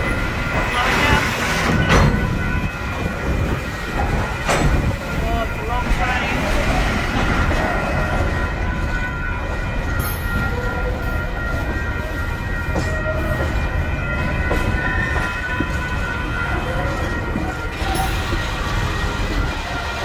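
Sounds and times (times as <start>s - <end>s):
crossing warning bells ringing: 0.0s - 20.0s
freight train rumbling past: 0.0s - 20.0s
train wheels clunking: 0.0s - 20.0s.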